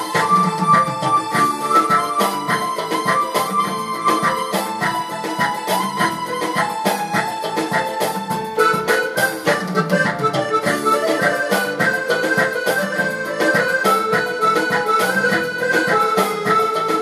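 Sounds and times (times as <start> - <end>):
drum accompaniment: 0.0 - 17.0
keyboard accordion melody: 0.0 - 17.0.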